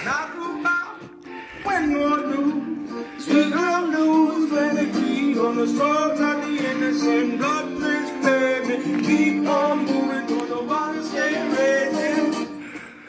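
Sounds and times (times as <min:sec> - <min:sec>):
man singing: 0:00.0 - 0:12.7
instrumental backing: 0:00.0 - 0:13.0.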